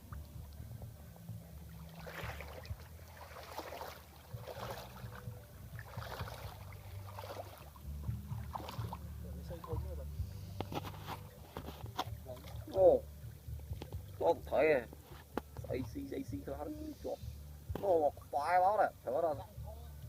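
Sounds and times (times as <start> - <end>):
steady low hum: 0.0 - 20.0
water splashing rhythmically: 0.0 - 20.0.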